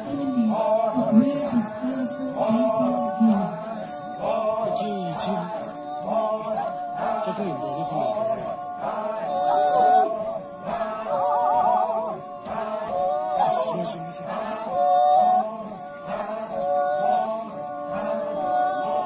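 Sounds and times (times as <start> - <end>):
group chanting folk song: 0.0 - 19.0.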